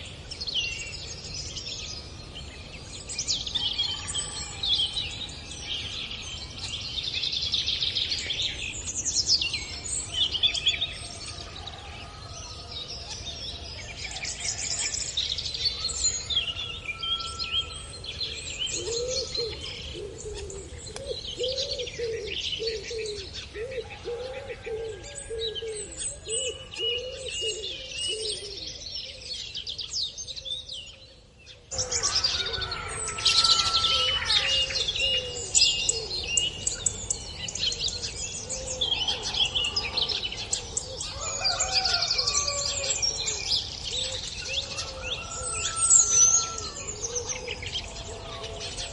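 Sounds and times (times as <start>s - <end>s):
birds chirping and singing: 0.0s - 48.9s.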